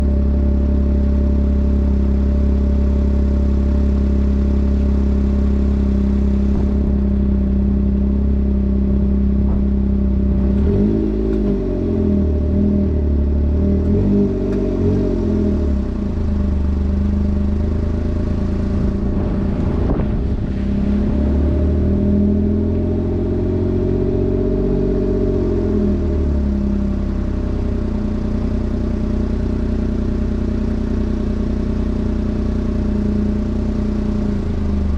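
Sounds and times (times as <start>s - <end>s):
small truck engine idling and revving: 0.0s - 34.9s.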